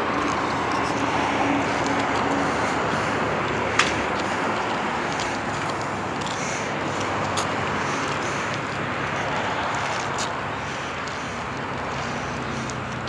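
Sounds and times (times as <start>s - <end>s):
highway traffic rushing: 0.0s - 13.0s.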